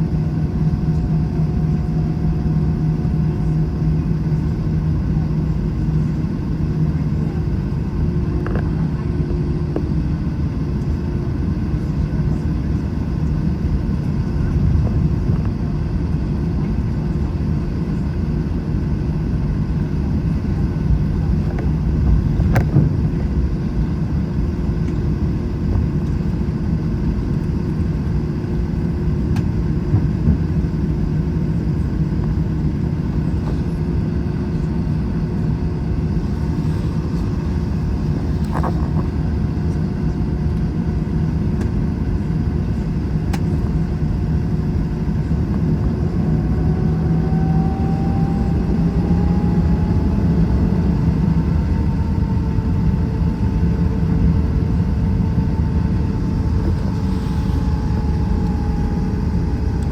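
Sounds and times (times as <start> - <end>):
airliner cabin engine hum: 0.0 - 59.9.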